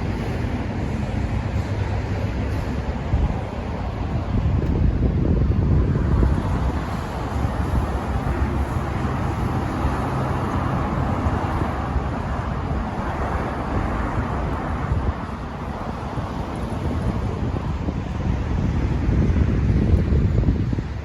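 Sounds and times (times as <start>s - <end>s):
road traffic: 0.0s - 21.0s
wind rumbling on microphone: 0.0s - 21.0s.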